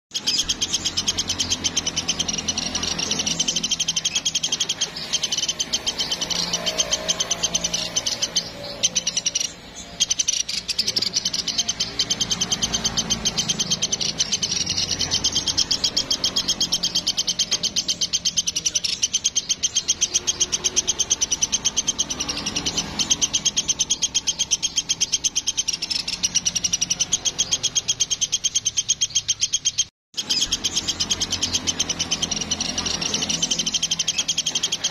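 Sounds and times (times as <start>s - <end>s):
woodpecker rattling trill: 0.1s - 34.9s.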